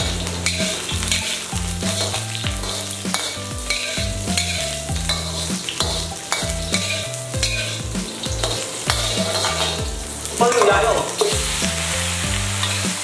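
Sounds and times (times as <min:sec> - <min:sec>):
metal spatula scraping wok: 0:00.0 - 0:13.0
spices sizzling in hot oil: 0:00.0 - 0:13.0.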